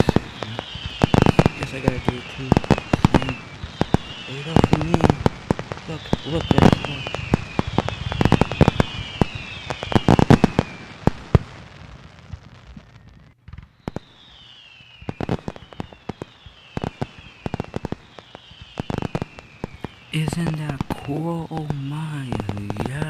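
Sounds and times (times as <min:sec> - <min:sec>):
high falling whistle: 0:00.0 - 0:11.1, 0:12.8 - 0:21.4
fireworks bangs and crackles: 0:00.0 - 0:23.0.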